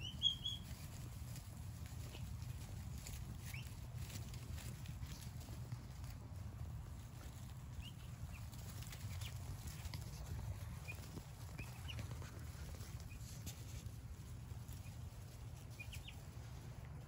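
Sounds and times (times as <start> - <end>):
turkey poults peeping: 0.0 - 16.9
scratching in wood shavings: 0.0 - 17.0
steady low hum: 0.0 - 17.0.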